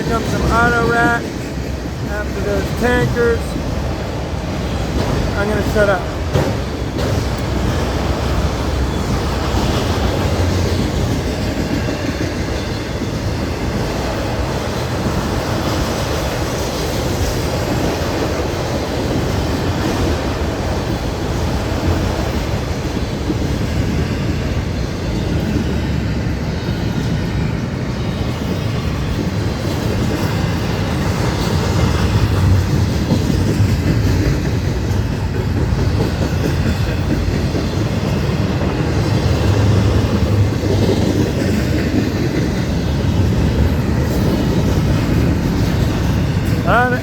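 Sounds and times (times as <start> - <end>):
freight train rolling past: 0.0 - 47.0.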